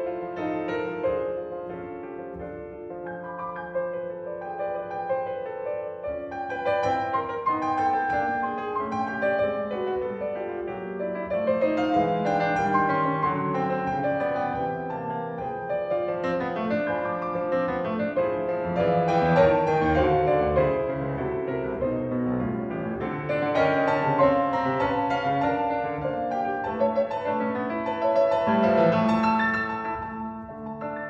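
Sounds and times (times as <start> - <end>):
solo piano piece: 0.0 - 31.0.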